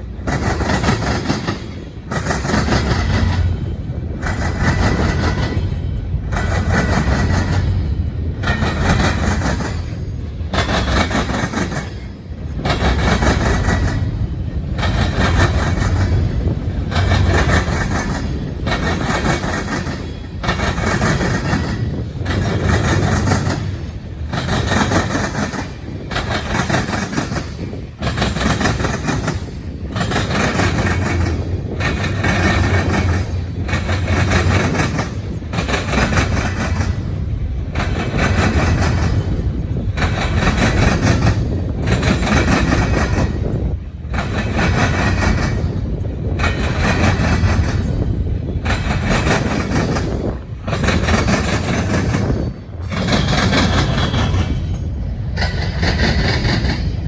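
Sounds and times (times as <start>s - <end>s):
freight train rail clatter: 0.0s - 57.0s.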